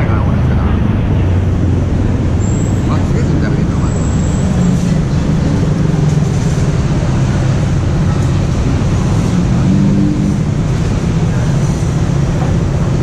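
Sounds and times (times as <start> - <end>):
street traffic engines rumbling: 0.0 - 13.0.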